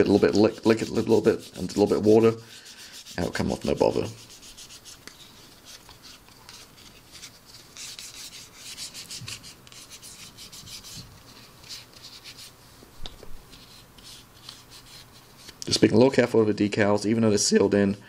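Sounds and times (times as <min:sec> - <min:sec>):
paper towel scrubbing plastic: 0:00.0 - 0:15.6.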